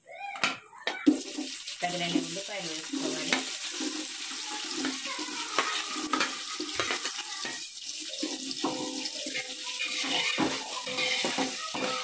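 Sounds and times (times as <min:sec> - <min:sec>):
onions sizzling in hot oil: 0:01.0 - 0:12.0
spoon stirring a pot: 0:01.0 - 0:12.0.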